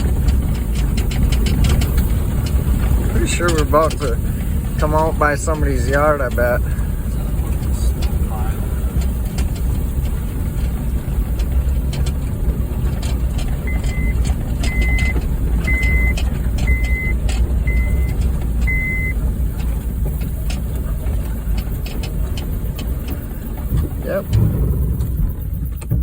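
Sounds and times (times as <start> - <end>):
car engine and road rumble: 0.0 - 26.0
knocks and rattles: 0.0 - 26.0.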